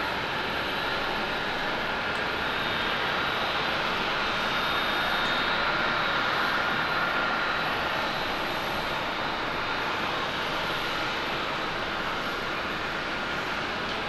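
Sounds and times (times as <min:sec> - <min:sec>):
jet engine roar with whine: 0:00.0 - 0:14.0.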